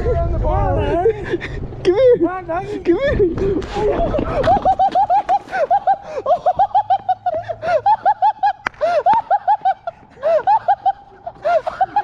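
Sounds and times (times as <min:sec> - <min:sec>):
young men laughing: 0:00.0 - 0:12.0.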